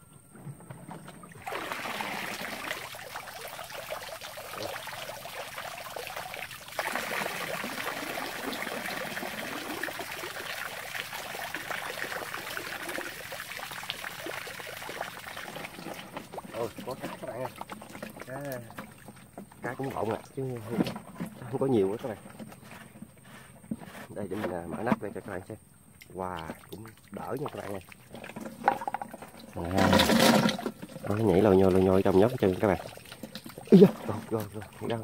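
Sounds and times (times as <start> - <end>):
water pouring and splashing: 0.7 - 25.4, 26.0 - 35.0.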